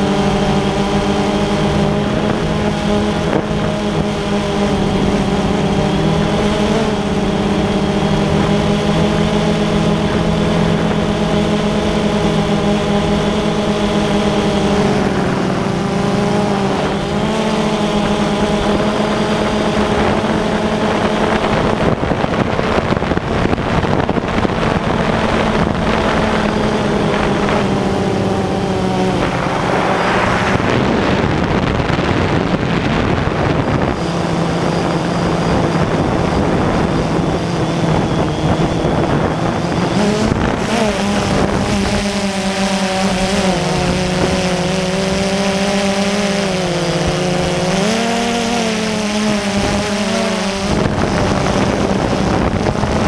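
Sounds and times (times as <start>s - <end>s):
drone propellers whining: 0.0s - 53.0s
wind over microphone: 0.0s - 53.0s.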